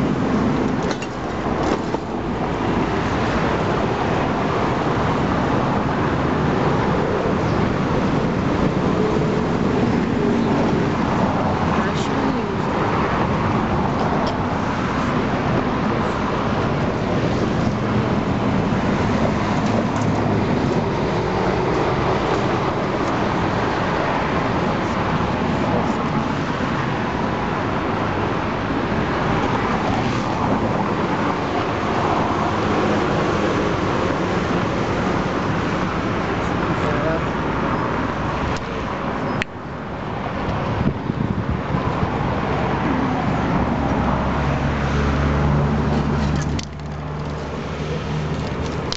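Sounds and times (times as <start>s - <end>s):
city road traffic: 0.0s - 48.9s.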